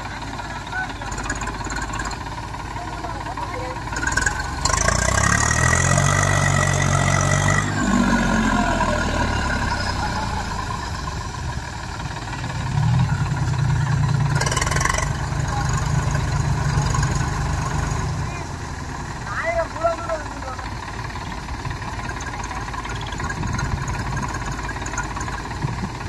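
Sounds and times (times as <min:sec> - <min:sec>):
tractor diesel engine revving: 0:00.0 - 0:26.0.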